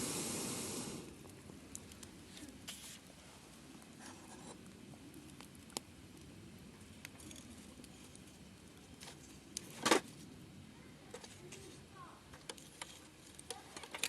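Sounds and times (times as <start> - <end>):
campfire crackles: 0.0 - 14.0
campfire hiss: 0.0 - 14.0.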